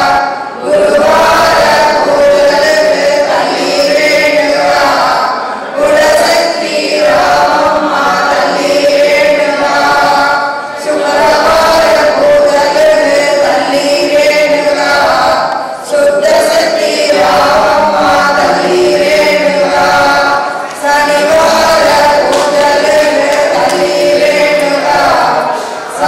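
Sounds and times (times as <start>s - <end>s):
group singing devotional song: 0.0s - 26.0s.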